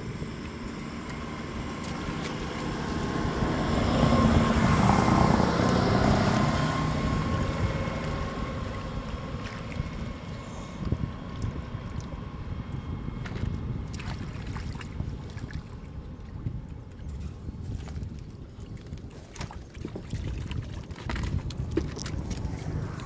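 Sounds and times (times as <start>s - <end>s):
motorboat engine passing: 0.0s - 23.0s.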